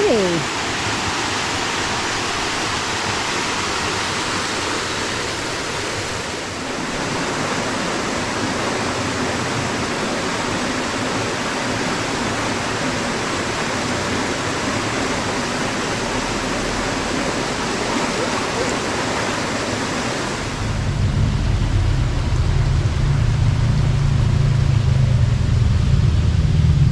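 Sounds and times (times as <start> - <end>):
waterfall rushing: 0.0 - 26.3.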